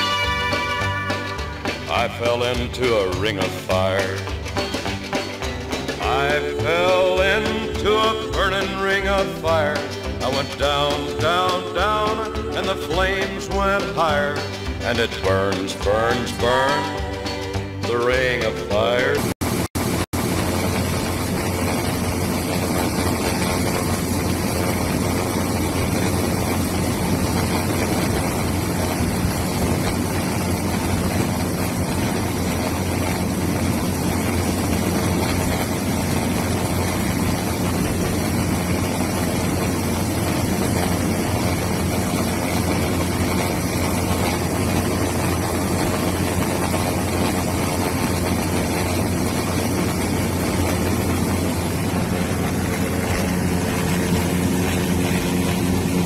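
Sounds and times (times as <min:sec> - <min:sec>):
aircraft engine and rotor noise: 0:00.0 - 0:56.0.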